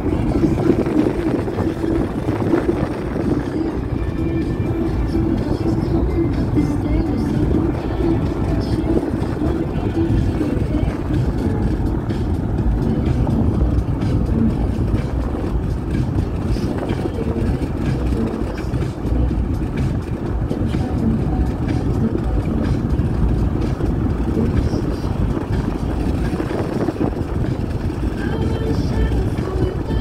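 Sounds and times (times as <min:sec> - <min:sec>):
car road and wind noise: 0:00.0 - 0:30.0.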